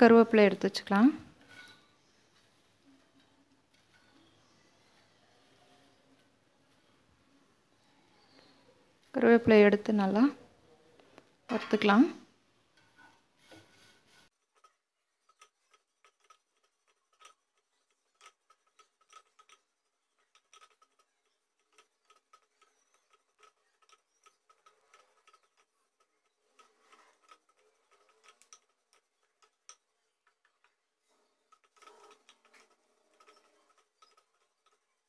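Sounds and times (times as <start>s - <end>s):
wooden spatula ticks and scrapes: 1.2s - 7.1s, 12.7s - 35.0s.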